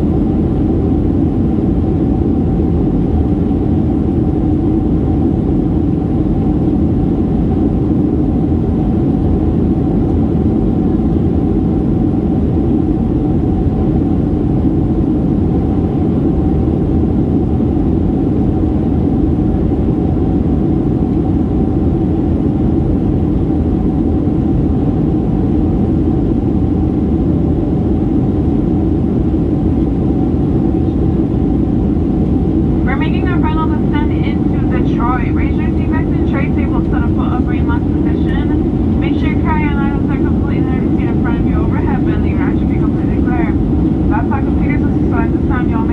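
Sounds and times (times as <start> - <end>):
engine and airflow rumble: 0.0 - 45.9
steady whine: 0.0 - 45.9.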